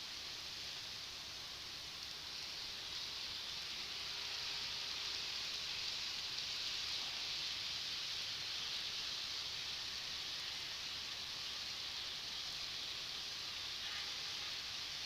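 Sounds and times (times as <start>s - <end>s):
model train whirring on track: 0.0s - 15.0s.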